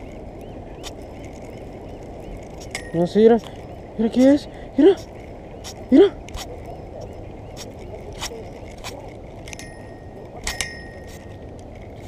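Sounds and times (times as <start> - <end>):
sharp metallic clinks: 0.0 - 12.0
steady low rush: 0.0 - 12.0.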